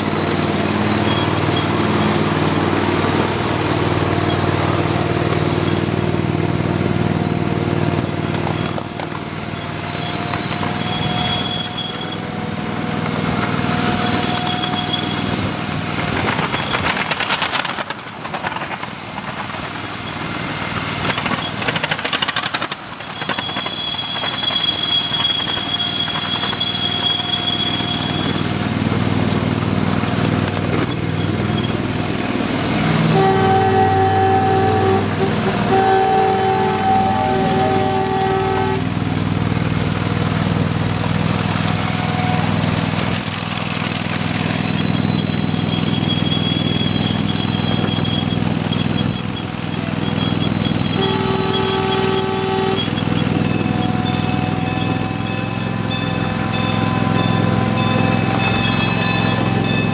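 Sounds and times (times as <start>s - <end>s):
high-pitched wheel squeals: 0.0s - 17.1s, 19.6s - 39.7s, 41.3s - 59.9s
train motor humming: 0.0s - 59.9s
wheels clattering over rails: 0.0s - 59.9s.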